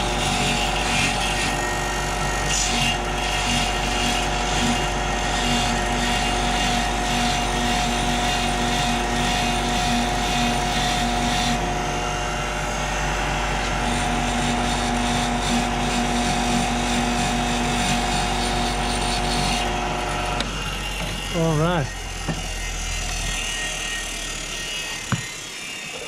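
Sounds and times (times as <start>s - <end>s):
power tool motor whine: 0.0s - 26.0s.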